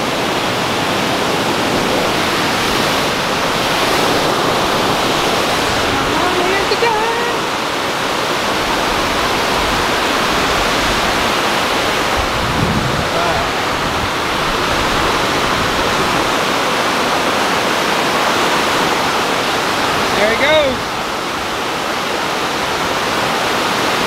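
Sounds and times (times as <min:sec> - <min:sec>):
river water roaring over dam: 0:00.0 - 0:24.0.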